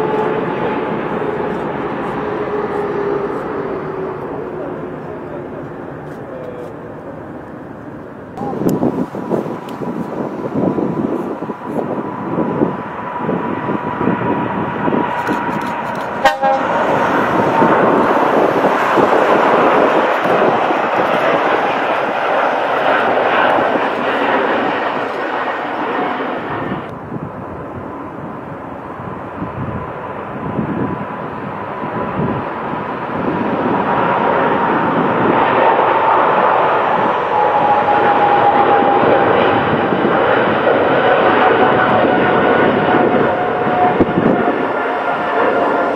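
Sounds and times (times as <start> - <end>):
jet engine roar: 0.0 - 45.9.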